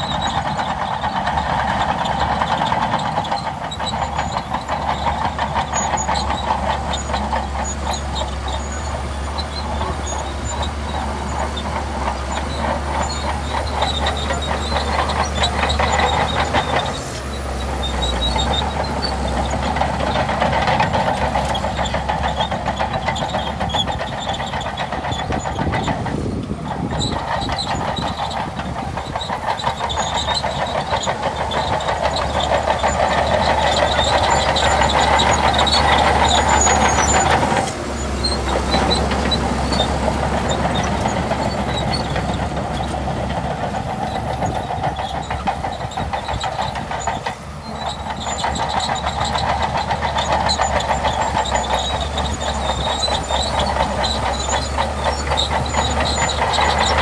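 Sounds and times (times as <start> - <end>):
bulldozer diesel engine running: 0.0 - 57.0
steel tracks clattering: 0.0 - 57.0.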